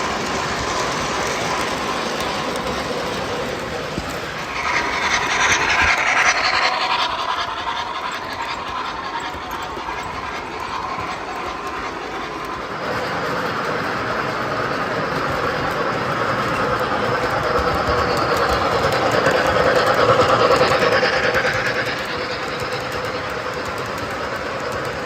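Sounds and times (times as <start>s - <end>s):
model train rolling on track: 0.0s - 25.0s.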